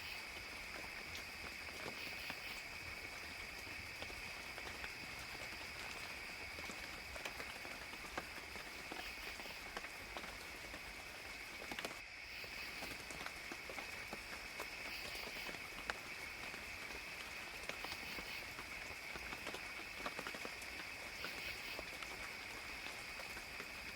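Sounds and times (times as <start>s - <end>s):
rain pattering in forest: 0.0s - 23.9s.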